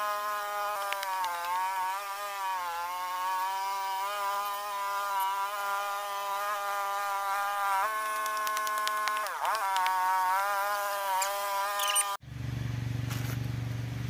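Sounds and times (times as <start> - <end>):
flying insect buzzing: 0.0 - 12.2.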